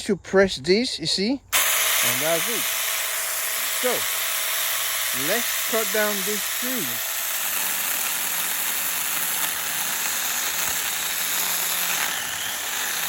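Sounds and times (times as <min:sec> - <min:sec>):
chainsaw cutting tree trunk: 0:01.5 - 0:13.0.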